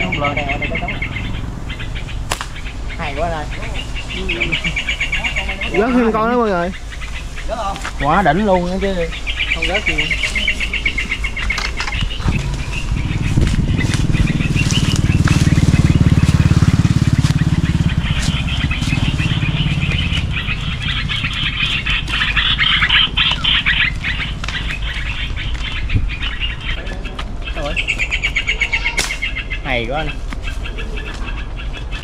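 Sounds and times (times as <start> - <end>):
motorcycle engine passing: 0.0 - 30.0
small birds chirping: 0.0 - 32.0.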